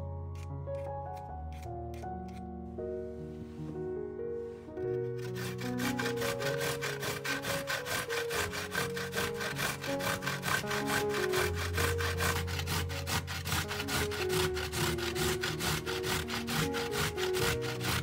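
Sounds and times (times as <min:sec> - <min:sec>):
background music: 0:00.0 - 0:18.0
vegetable scraping on grater: 0:00.8 - 0:02.4, 0:04.9 - 0:18.0.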